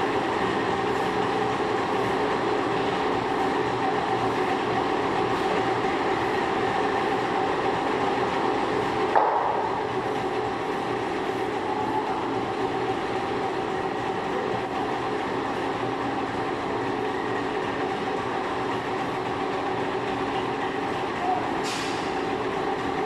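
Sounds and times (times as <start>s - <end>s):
metalworking machine humming: 0.0s - 23.0s.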